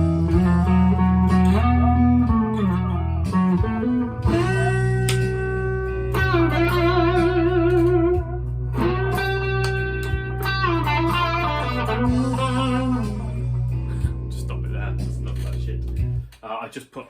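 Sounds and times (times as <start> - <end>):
overdriven electric guitar notes: 0.0 - 14.4.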